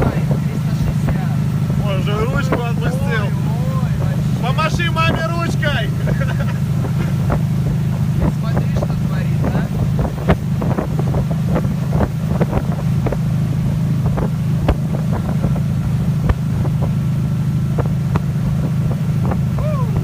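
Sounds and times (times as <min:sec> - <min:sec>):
boat engine running: 0:00.0 - 0:20.0
wind buffeting microphone: 0:00.0 - 0:20.0.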